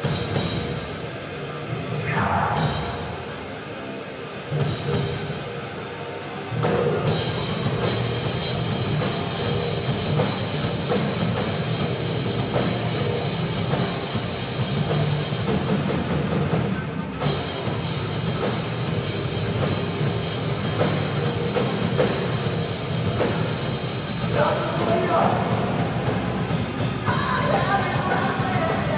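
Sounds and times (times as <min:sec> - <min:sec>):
drum kit: 0:00.0 - 0:01.2, 0:01.9 - 0:03.4, 0:04.5 - 0:05.7, 0:06.5 - 0:28.9
bass guitar: 0:00.0 - 0:28.9
electric guitars: 0:00.0 - 0:28.9.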